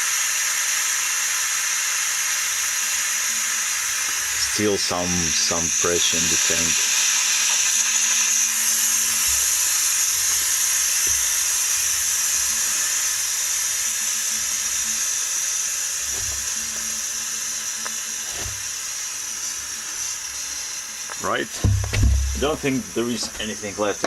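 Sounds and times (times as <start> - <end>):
compressed air hissing: 1.3 - 24.0.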